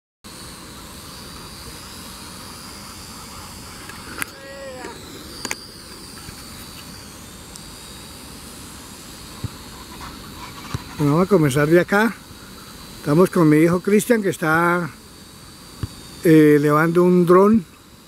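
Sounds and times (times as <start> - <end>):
drone propellers humming: 0.3 - 18.0
faint high whine: 0.3 - 18.0.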